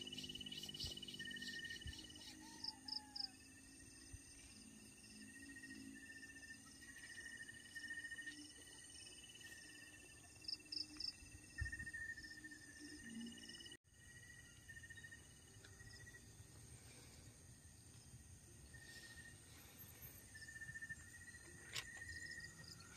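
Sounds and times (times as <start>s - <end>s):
crickets trilling: 0.0s - 22.9s.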